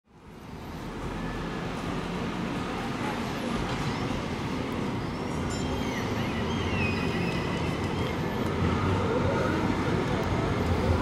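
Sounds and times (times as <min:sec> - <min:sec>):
tram rumbling: 0:00.1 - 0:11.0.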